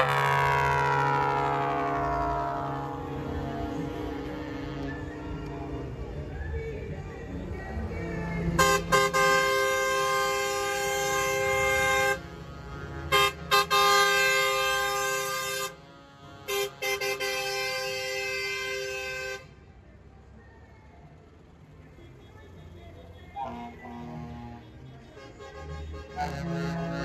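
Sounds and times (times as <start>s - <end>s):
bus horns blasting a chord: 0.0s - 6.3s, 8.1s - 19.6s, 22.0s - 27.0s
low engine rumble: 0.0s - 27.0s.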